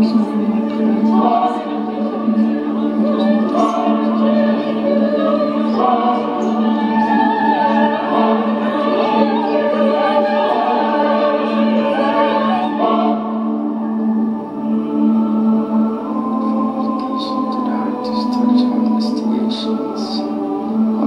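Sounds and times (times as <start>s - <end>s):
wordless choir singing: 0.0s - 21.0s.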